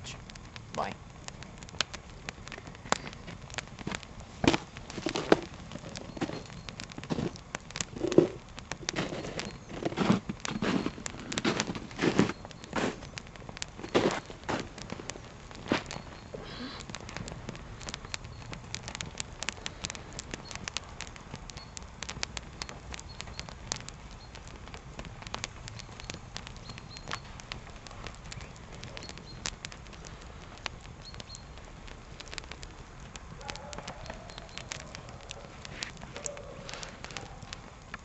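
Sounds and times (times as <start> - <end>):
campfire crackling: 0.0 - 38.0
fire snaps and pops: 0.0 - 38.0.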